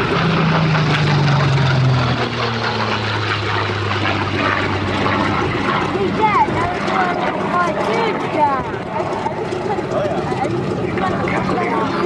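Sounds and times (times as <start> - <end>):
propeller aircraft flying past: 0.0 - 12.0.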